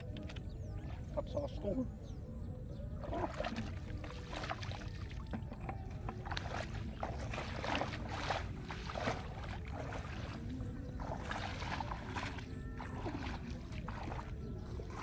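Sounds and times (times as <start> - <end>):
feet splashing in shallow water: 2.8 - 15.0.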